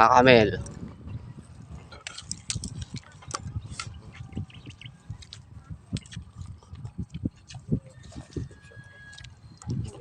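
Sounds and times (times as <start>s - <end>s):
small clicks and soft knocks of eating: 1.4s - 10.0s.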